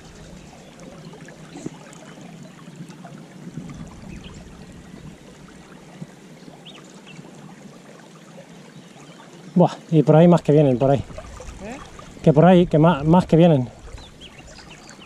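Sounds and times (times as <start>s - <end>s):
river flowing and lapping: 0.0s - 15.0s.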